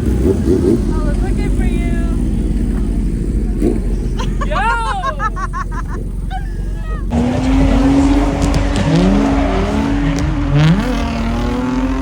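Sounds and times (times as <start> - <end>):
background voices: 0.0 - 12.0
car engine revving: 0.0 - 12.0.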